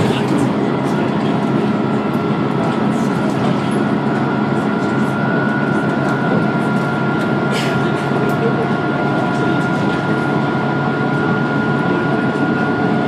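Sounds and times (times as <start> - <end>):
bus engine and road noise: 0.0 - 13.0
high turbo whine: 0.0 - 13.0.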